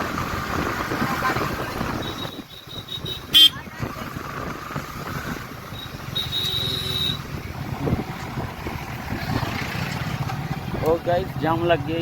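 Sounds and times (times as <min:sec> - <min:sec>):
wind noise: 0:00.0 - 0:11.3
motorcycle engine and road rumble: 0:00.0 - 0:12.0.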